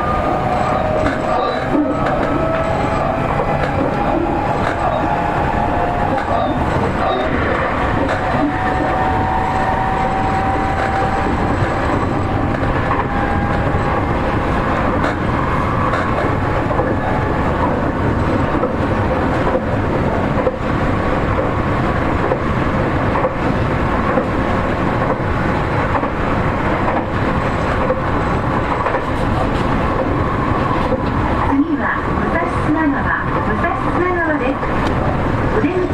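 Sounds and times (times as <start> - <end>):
train wheels rolling on rail: 0.0 - 35.9.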